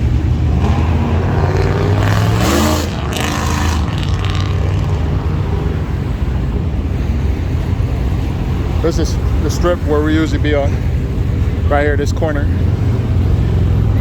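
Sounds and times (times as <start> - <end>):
car exhaust rumbling and revving: 0.0 - 14.0.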